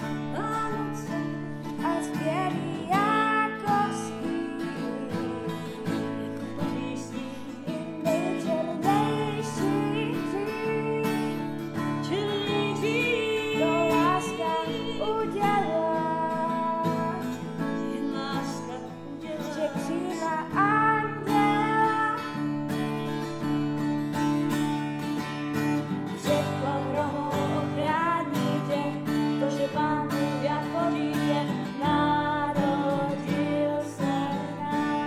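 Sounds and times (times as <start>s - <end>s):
acoustic guitar strumming: 0.0s - 35.0s
woman singing: 0.0s - 35.0s.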